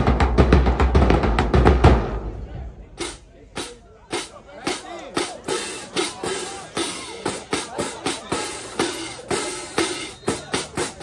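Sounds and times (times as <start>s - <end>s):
marching drumline playing: 0.0s - 2.4s, 3.0s - 11.0s.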